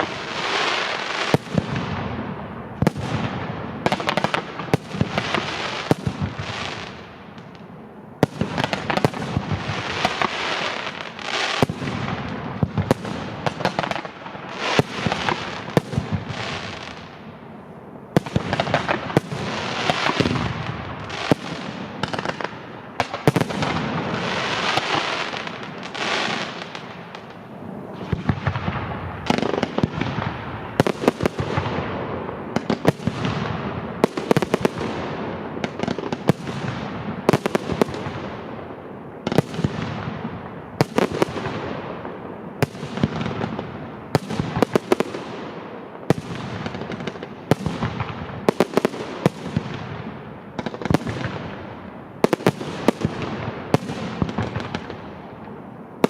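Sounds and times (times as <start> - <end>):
fireworks bangs: 0.0 - 56.0
fireworks crackling and hissing: 0.0 - 56.0.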